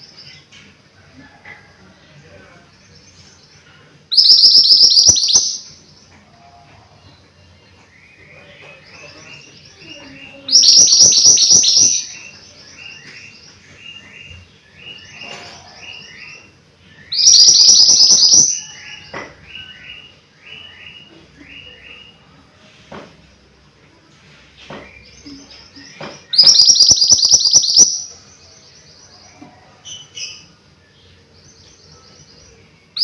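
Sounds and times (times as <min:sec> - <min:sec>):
songbird chirps: 0:00.0 - 0:33.0.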